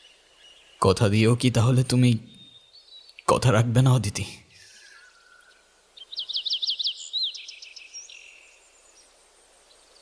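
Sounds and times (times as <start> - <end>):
songbird singing high notes: 0.0 - 8.6
faint outdoor background noise: 0.0 - 10.0.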